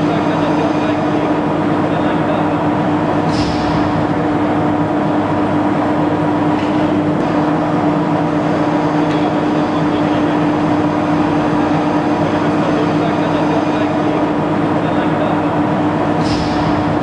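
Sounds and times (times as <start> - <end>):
industrial machinery drone: 0.0 - 17.0.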